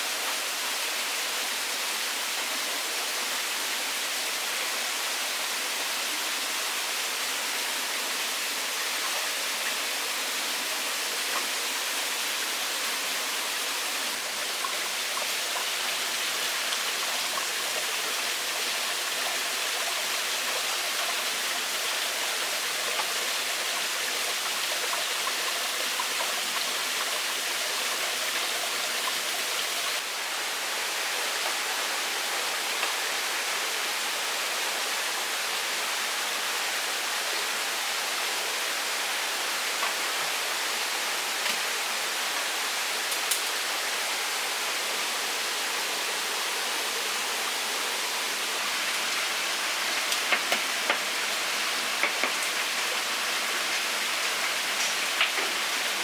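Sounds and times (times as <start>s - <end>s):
stream of running water: 0.0s - 56.0s.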